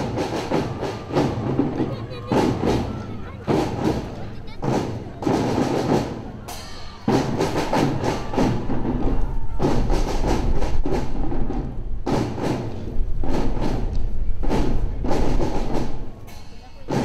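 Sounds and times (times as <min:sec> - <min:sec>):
bass drums: 0:00.0 - 0:16.1
snare drums: 0:00.0 - 0:17.0.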